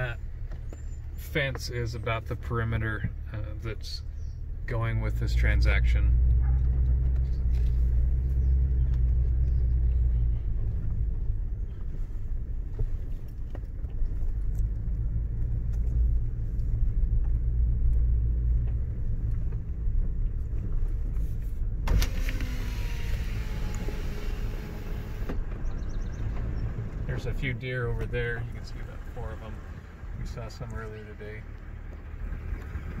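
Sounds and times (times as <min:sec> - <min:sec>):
vehicle driving on dirt road: 0:00.0 - 0:33.0
outside air noise: 0:05.9 - 0:33.0.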